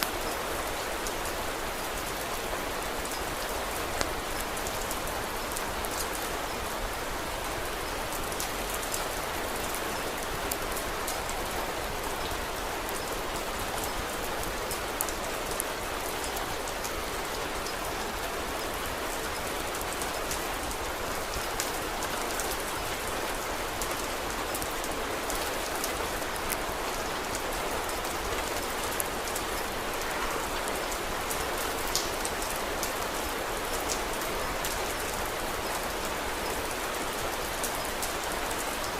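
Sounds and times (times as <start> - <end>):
rain falling: 0.0 - 38.9
rain ticks and pops: 2.9 - 38.9.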